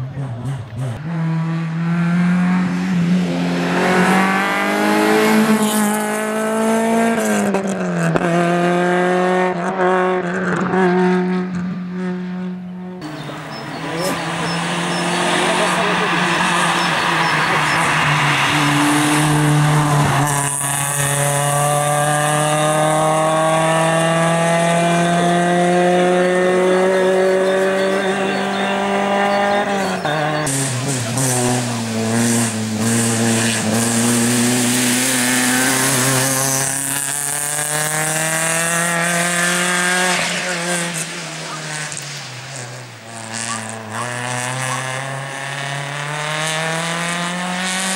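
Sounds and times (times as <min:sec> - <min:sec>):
car engine accelerating hard: 0:00.0 - 0:47.9.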